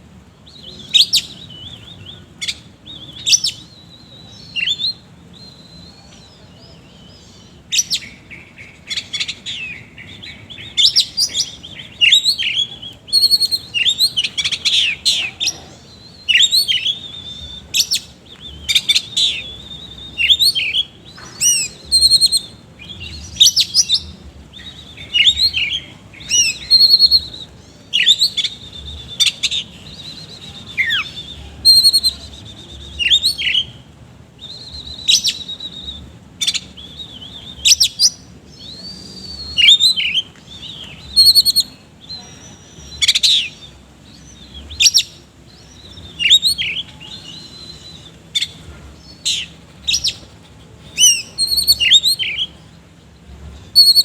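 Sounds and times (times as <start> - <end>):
songbird singing rapid whistles: 0.4 - 54.0.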